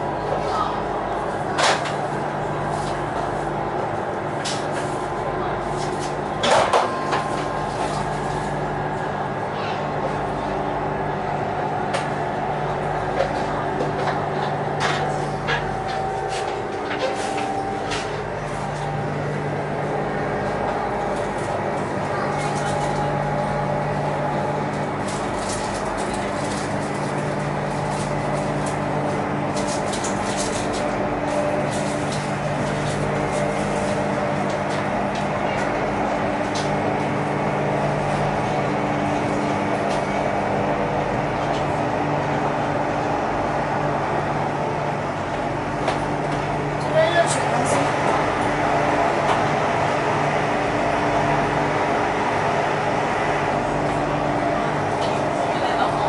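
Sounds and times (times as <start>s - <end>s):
train rumbling at speed: 0.0s - 56.0s.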